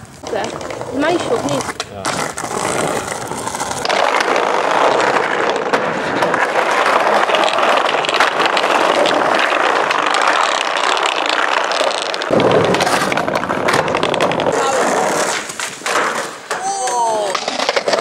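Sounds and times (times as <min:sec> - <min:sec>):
skateboard wheels rumbling on wood: 0:00.1 - 0:18.0.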